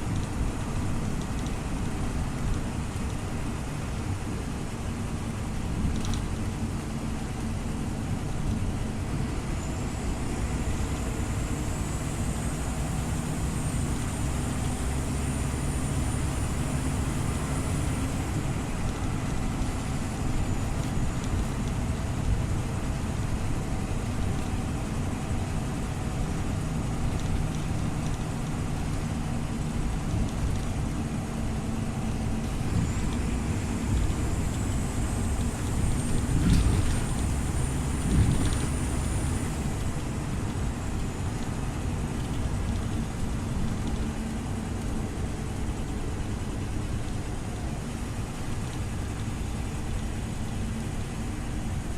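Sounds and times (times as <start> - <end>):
bus engine drone: 0.0 - 51.9
road noise: 0.0 - 51.9.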